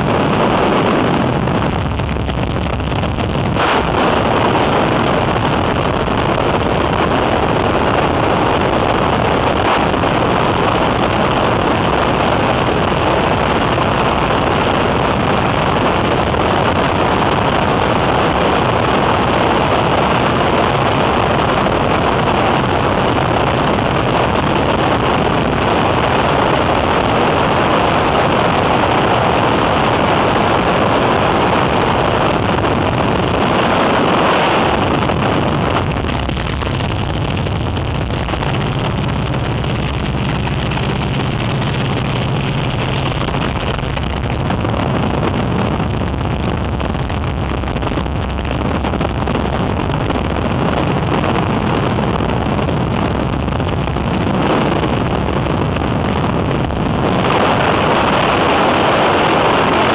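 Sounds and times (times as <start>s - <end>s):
biplane engine drone: 0.0s - 59.9s
slipstream rushing over microphone: 0.0s - 59.9s.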